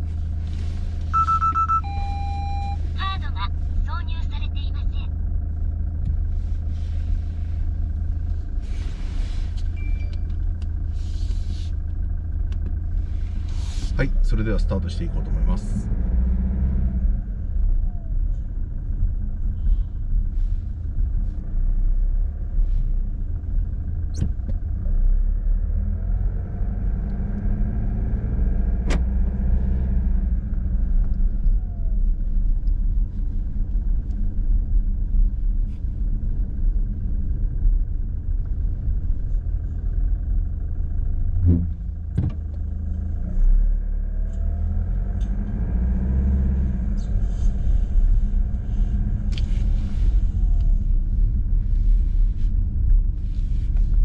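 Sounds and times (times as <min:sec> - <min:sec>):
engine and road noise rumble: 0:00.0 - 0:54.0.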